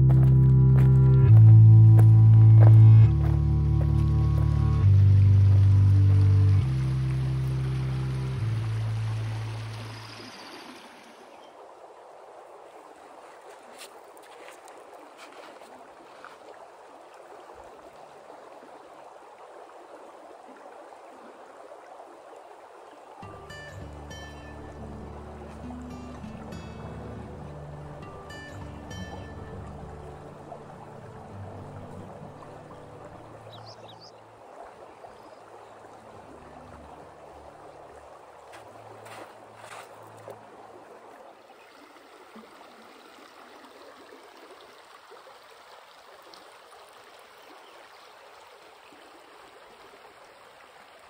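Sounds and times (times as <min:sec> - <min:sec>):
creek babbling over rocks: 0:02.7 - 0:51.0.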